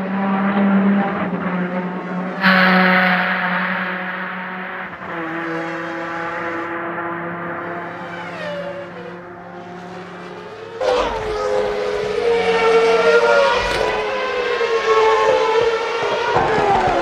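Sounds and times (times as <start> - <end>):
racing car engines whining: 0.0 - 17.0.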